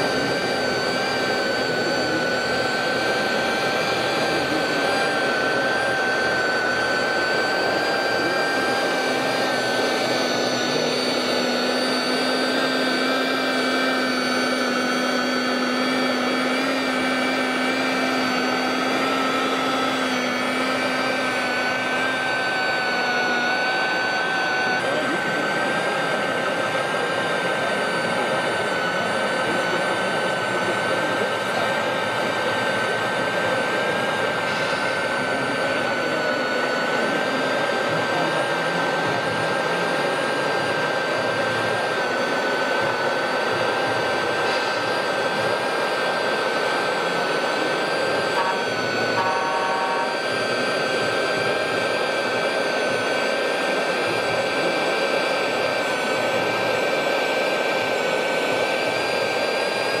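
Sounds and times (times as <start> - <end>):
toy sweeper suction whine: 0.0 - 60.0.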